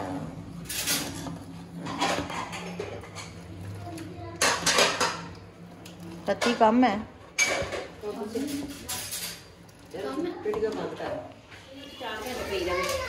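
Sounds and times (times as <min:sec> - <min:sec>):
utensils and dishes clattering: 0:00.0 - 0:13.0.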